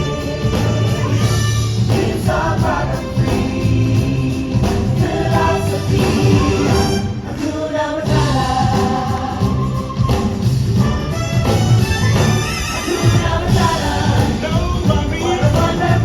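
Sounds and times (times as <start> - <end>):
choir singing over drum beat: 0.0 - 11.2, 12.1 - 16.0.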